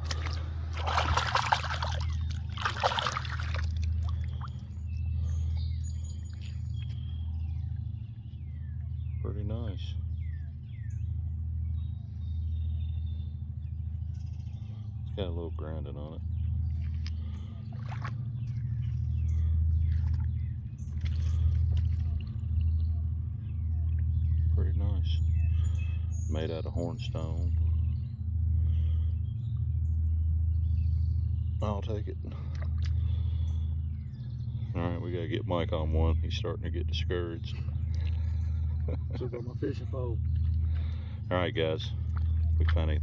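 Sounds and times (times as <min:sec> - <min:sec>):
water sloshing and splashing: 0:00.0 - 0:09.2, 0:16.2 - 0:30.4, 0:31.1 - 0:43.0
birds chirping: 0:00.0 - 0:43.0
low rumble: 0:00.0 - 0:43.0.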